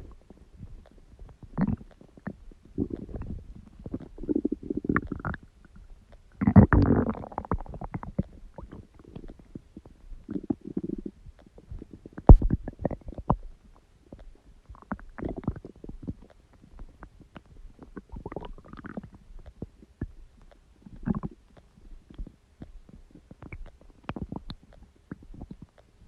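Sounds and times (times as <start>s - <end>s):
stomach growling and gurgling: 0.0s - 26.0s.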